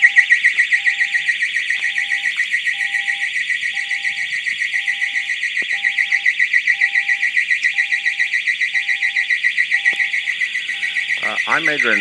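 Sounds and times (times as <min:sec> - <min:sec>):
high-pitched pulsing alarm tone: 0:00.0 - 0:12.0
low alarm beep: 0:00.0 - 0:12.0.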